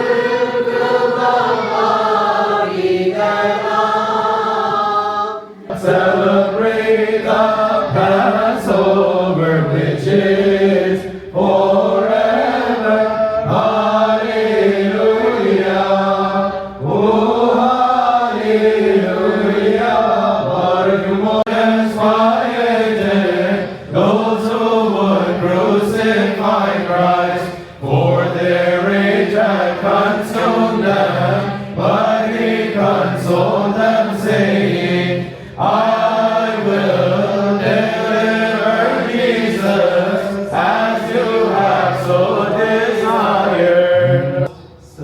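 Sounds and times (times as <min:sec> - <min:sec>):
voices singing liturgical chant: 0:00.0 - 0:45.0.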